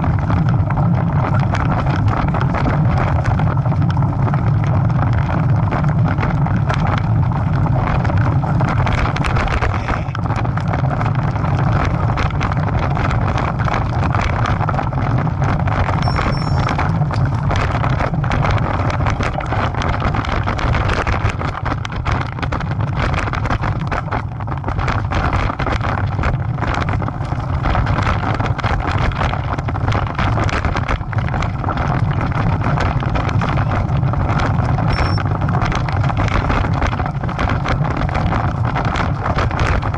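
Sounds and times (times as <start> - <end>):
bicycle rattling on dirt trail: 0.0 - 39.9
wind on microphone: 0.0 - 39.9.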